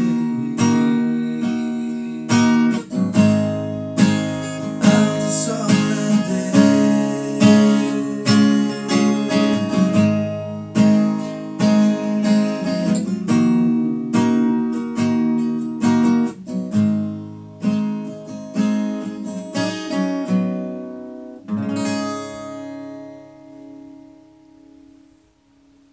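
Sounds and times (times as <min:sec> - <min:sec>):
acoustic guitar strummed and picked: 0:00.0 - 0:25.9.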